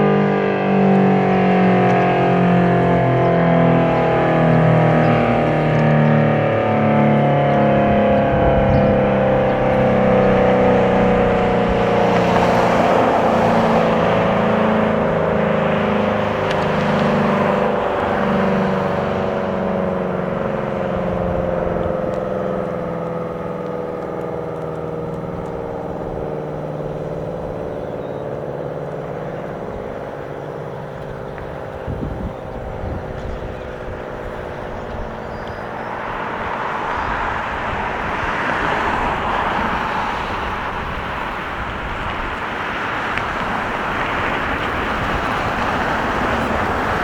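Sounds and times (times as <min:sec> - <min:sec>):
tornado siren winding down: 0:00.0 - 0:47.0.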